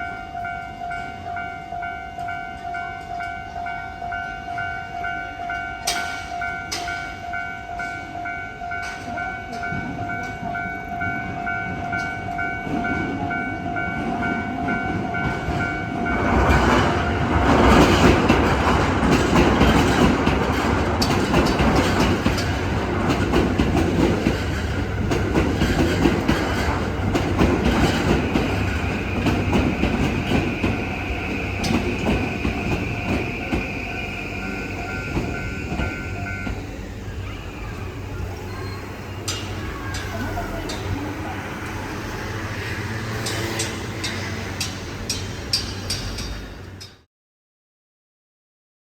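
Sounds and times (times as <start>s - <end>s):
level-crossing warning bell ringing: 0.0s - 47.0s
train rumbling past: 0.0s - 47.1s
clattering train wheels: 5.0s - 47.1s.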